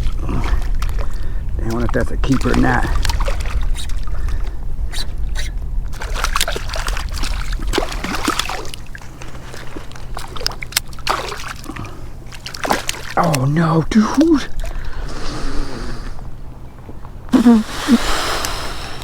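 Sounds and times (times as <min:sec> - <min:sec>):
steady low rumble: 0:00.0 - 0:19.0
water splashing and sloshing: 0:00.0 - 0:19.0
water trickling: 0:00.0 - 0:19.0.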